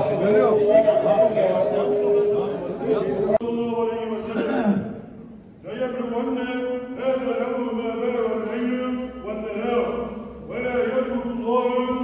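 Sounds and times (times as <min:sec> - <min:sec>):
man chanting: 0:00.0 - 0:04.8, 0:05.6 - 0:12.0.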